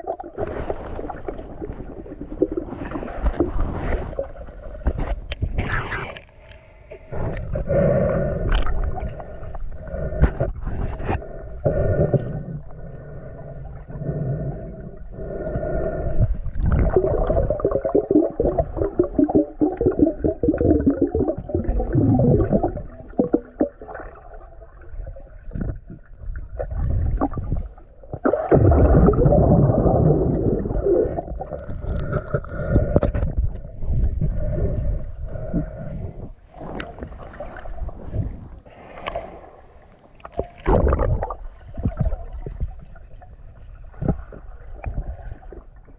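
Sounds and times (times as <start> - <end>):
underwater gurgling: 0.0 - 6.3, 7.0 - 45.9.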